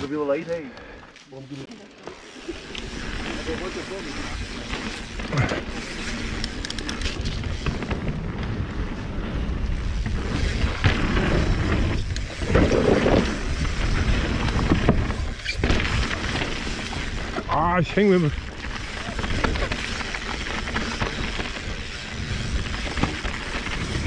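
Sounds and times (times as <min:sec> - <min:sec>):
bike clicks and rattles: 0:00.0 - 0:24.0
tyres rumbling on dirt: 0:02.5 - 0:24.0.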